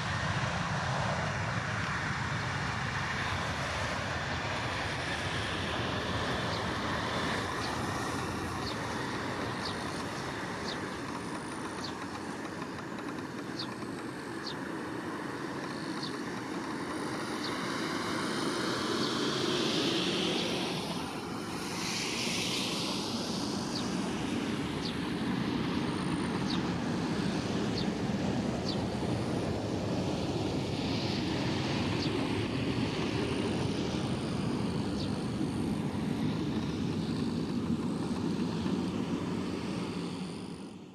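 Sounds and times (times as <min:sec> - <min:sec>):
jet engines at takeoff: 0:00.0 - 0:40.9.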